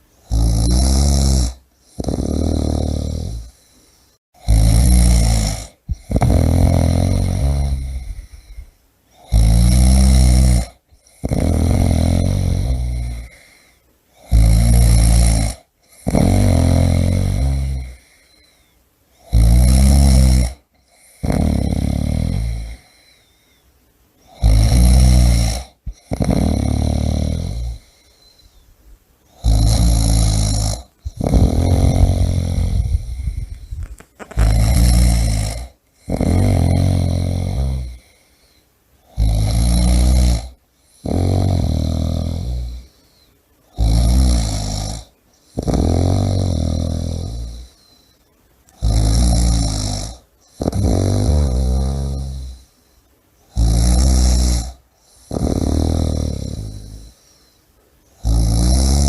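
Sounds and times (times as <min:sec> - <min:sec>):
person snoring: 0:00.2 - 0:03.8, 0:04.4 - 0:23.6, 0:24.2 - 0:28.6, 0:29.3 - 0:52.8, 0:53.5 - 0:57.5, 0:58.2 - 0:59.0.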